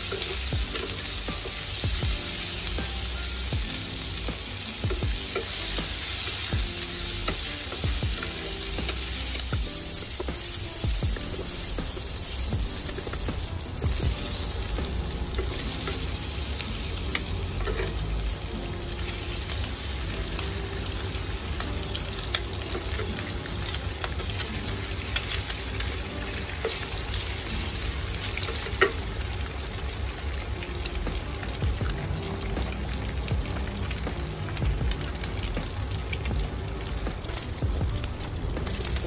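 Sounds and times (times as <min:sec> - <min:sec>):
meat sizzling in oil: 0:00.0 - 0:39.0.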